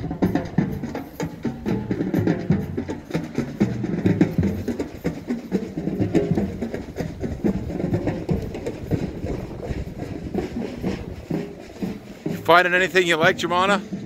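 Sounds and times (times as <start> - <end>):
deep bass drum notes: 0.0 - 14.0
marching drumline cadence: 0.0 - 14.0.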